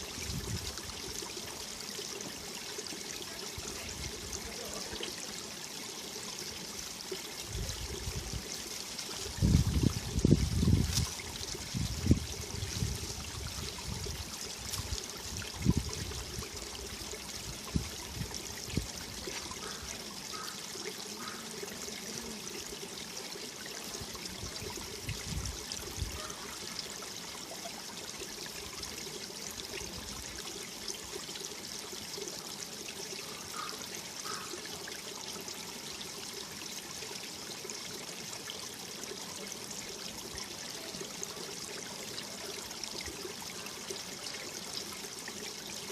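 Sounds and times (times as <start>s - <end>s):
stream running over rocks: 0.0s - 45.9s.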